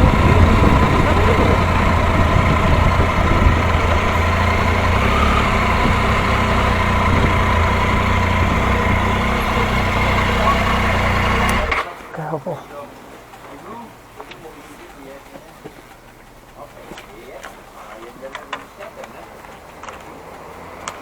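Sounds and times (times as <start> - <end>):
motorcycle engine droning: 0.0 - 12.1, 15.8 - 21.0.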